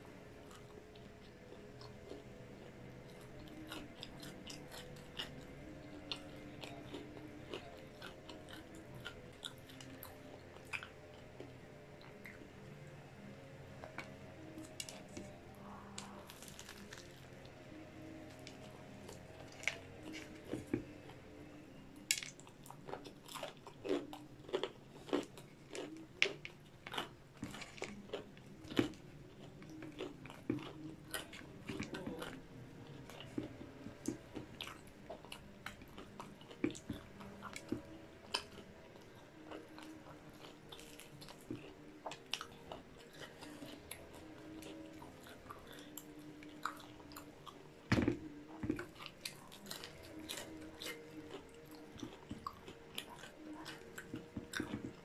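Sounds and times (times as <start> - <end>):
chewing crispy food: 0.0 - 55.0.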